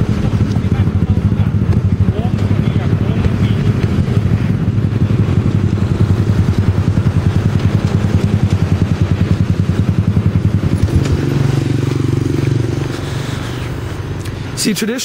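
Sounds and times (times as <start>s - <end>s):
motorbike engine running: 0.0s - 14.2s.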